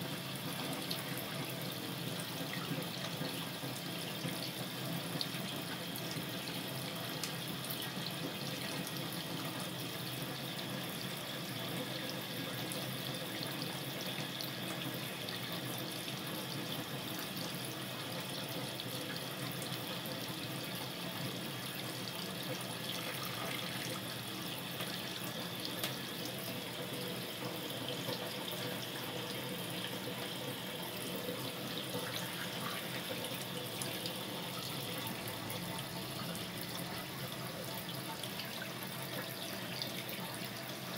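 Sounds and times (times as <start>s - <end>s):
tap water running into sink: 0.0s - 40.9s.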